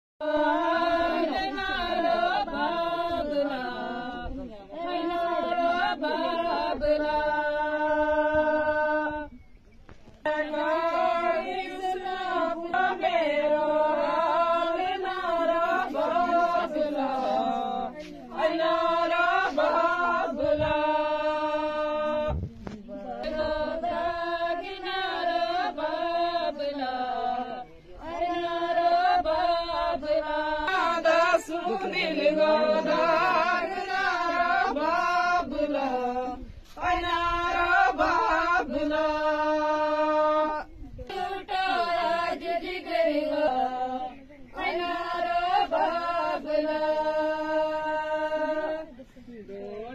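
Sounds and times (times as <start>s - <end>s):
women singing unaccompanied: 0.2s - 9.6s, 10.2s - 49.9s.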